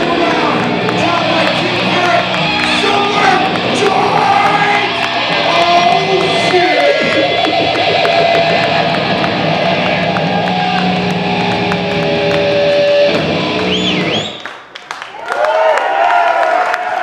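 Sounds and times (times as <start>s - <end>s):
heavy metal band playing: 0.0s - 14.2s.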